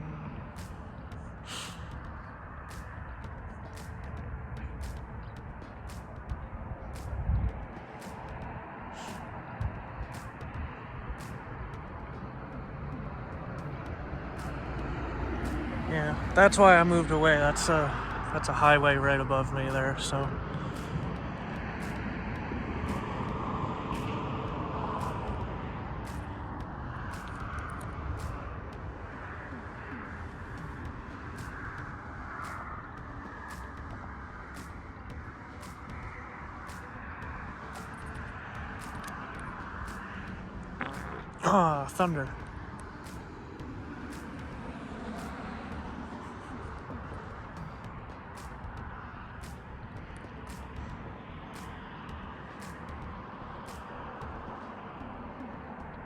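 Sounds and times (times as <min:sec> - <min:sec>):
highway traffic passing: 0:00.0 - 0:56.0.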